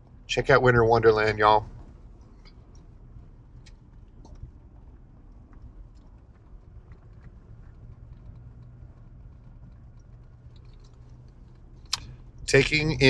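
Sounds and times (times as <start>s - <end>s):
engine and tyre rumble: 0.0s - 13.0s
faint ticks: 1.6s - 12.5s.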